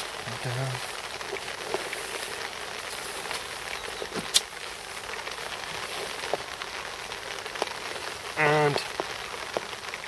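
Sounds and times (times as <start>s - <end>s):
rain hissing: 0.0s - 10.0s.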